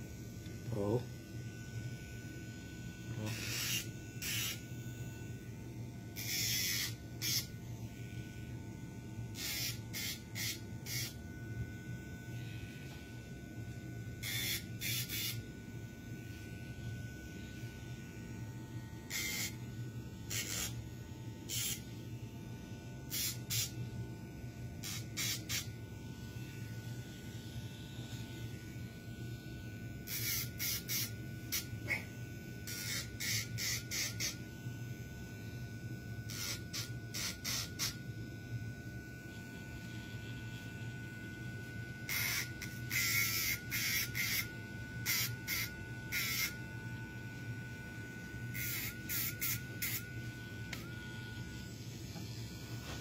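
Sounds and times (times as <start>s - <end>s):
rotary nail grinder whining: 0.0s - 5.5s, 6.1s - 24.1s, 24.8s - 38.2s, 42.0s - 53.0s.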